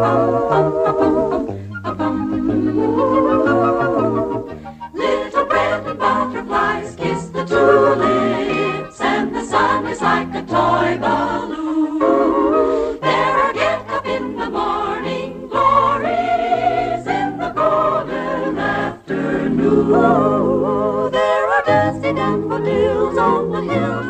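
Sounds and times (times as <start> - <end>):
several voices singing: 0.0 - 24.0.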